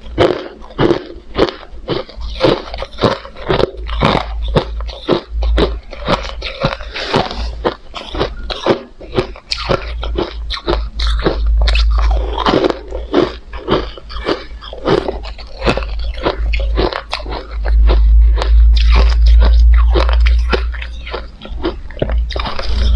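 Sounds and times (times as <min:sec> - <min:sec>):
crushed ice being chewed: 0:00.0 - 0:22.9
low rumble: 0:00.0 - 0:22.9.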